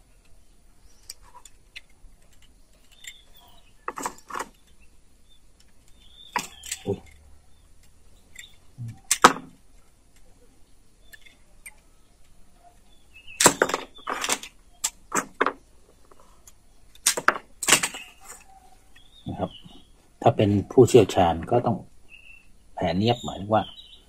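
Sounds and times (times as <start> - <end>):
rustles and clicks of tools: 0.0 - 20.2.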